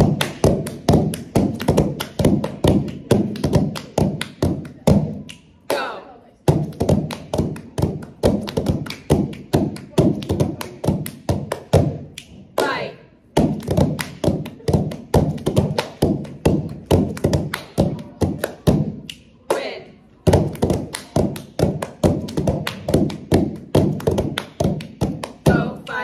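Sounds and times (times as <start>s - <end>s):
rhythmic hand clapping and slaps: 0.0s - 26.0s.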